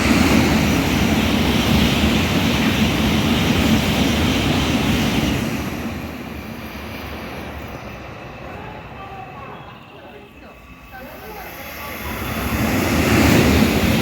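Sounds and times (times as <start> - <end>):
train rushing past: 0.0 - 14.0.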